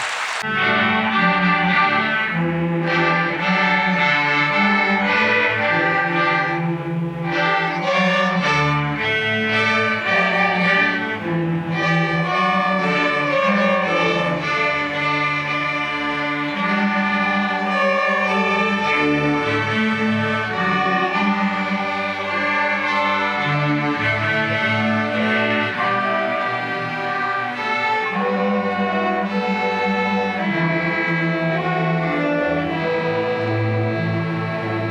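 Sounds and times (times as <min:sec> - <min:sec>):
string orchestra playing: 0:00.0 - 0:34.9.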